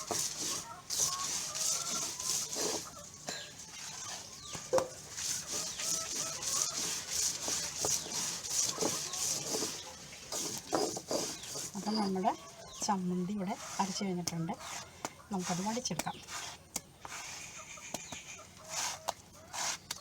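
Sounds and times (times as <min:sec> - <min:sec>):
hens clucking: 0:00.0 - 0:16.2
stone roller rasping on grinding stone: 0:00.0 - 0:17.6, 0:18.6 - 0:20.0.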